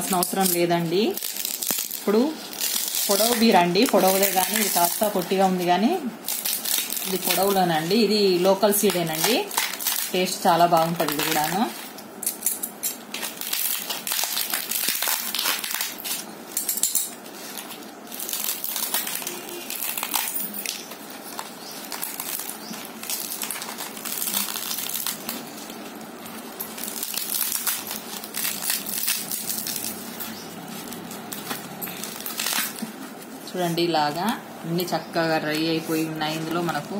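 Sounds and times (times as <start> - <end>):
dry gourd shell crackling: 0.0 - 36.9.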